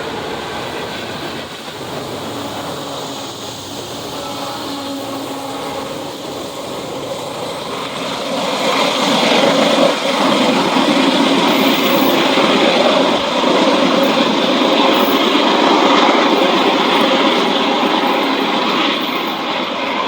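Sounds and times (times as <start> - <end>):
diesel locomotive engine: 0.0 - 20.0
train wheels rumbling on rails: 0.0 - 20.0.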